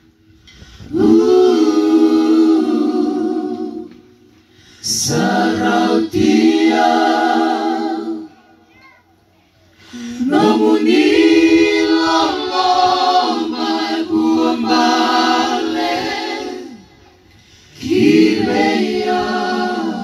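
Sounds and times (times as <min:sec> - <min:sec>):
women singing through pa: 0:00.8 - 0:08.6, 0:09.8 - 0:20.0.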